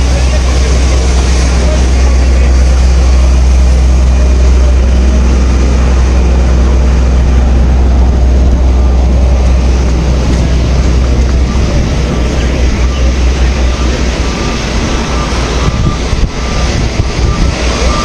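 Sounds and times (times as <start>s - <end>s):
loud engine humming: 0.0s - 18.0s
rushing noise: 0.0s - 18.0s.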